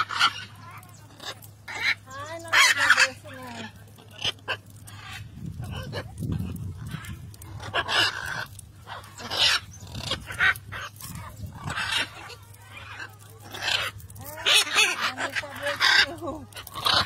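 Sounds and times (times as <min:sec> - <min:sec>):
macaws squawking: 0:00.0 - 0:17.0.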